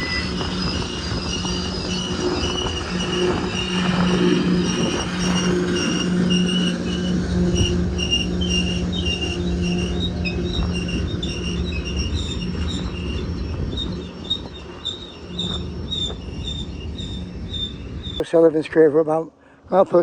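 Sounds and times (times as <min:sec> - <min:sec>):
steady low hum: 0:00.0 - 0:18.2
train brakes squealing: 0:00.0 - 0:18.2
wheels rumbling on rail: 0:00.0 - 0:18.9.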